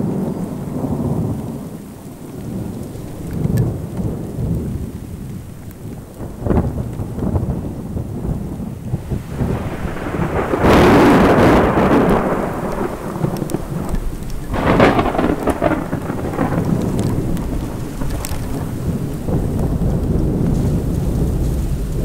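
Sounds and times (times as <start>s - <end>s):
steady rain: 0.0s - 22.0s
thunder cracking and rumbling: 0.0s - 22.0s.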